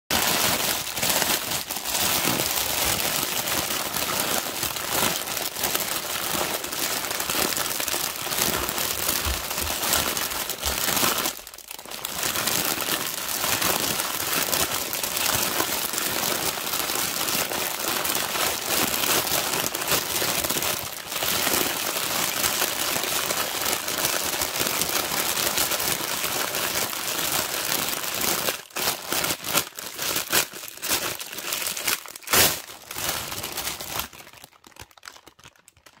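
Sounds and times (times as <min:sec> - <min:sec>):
plastic bag crinkling: 0:00.1 - 0:36.0.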